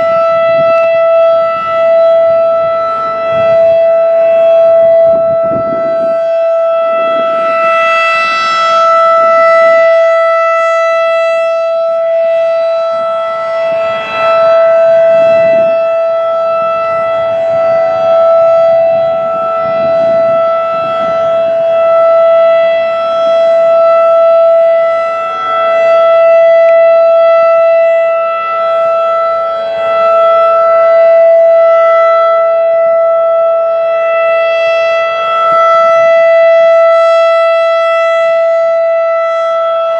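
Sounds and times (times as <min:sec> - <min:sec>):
rotating warning siren tone: 0:00.0 - 0:39.9.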